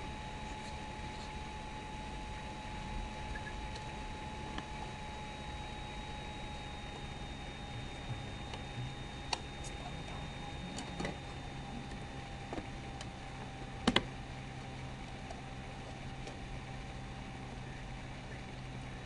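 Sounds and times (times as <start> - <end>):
faint steady tones: 0.0 - 19.0.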